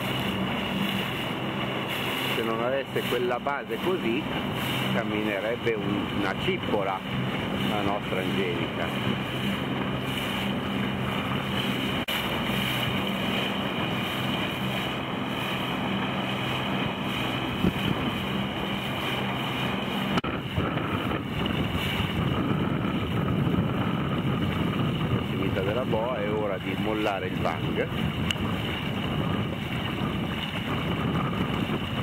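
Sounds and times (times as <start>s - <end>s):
boat engine droning: 0.0s - 32.0s
water rushing: 0.0s - 32.0s
wind buffeting microphone: 0.0s - 32.0s.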